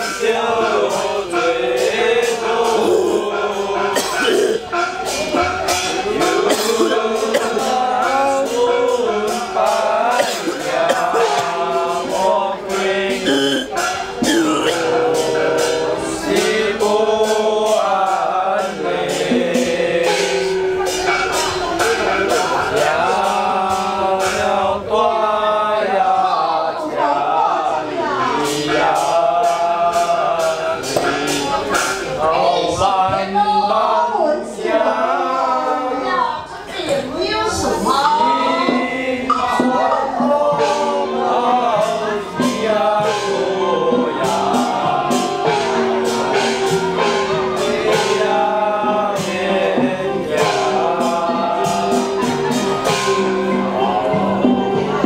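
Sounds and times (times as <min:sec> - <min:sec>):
chanting with wavering sung lines: 0:00.0 - 0:55.0
percussion strikes: 0:00.0 - 0:55.0.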